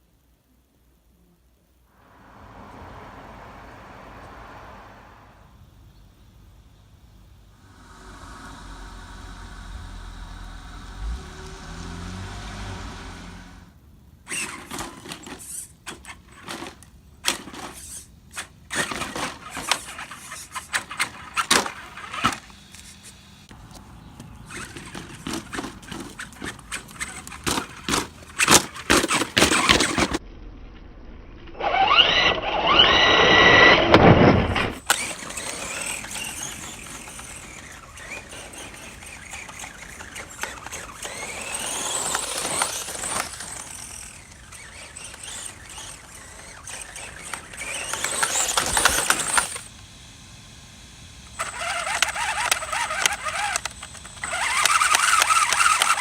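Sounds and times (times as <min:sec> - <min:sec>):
electric motor and gears whining: 0:07.5 - 0:30.2, 0:31.6 - 0:56.0.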